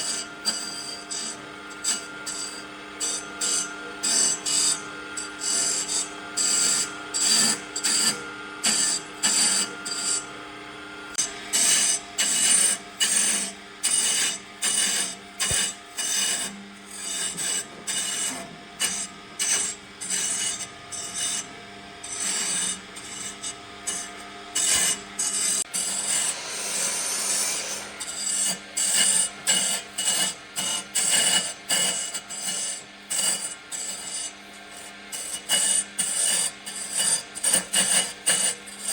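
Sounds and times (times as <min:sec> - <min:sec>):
wood rasping strokes: 0:00.0 - 0:10.3, 0:11.5 - 0:38.9.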